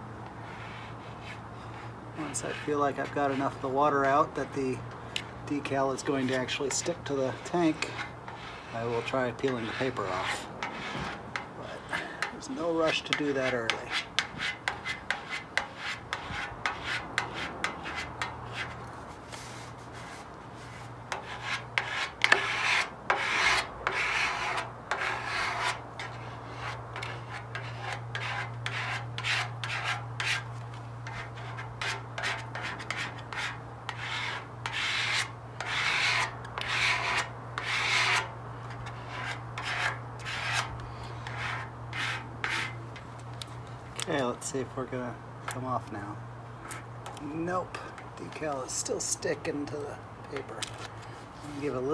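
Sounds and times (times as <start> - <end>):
squeegee scraping on decal: 0.2 - 4.5, 5.5 - 44.3, 50.3 - 51.9.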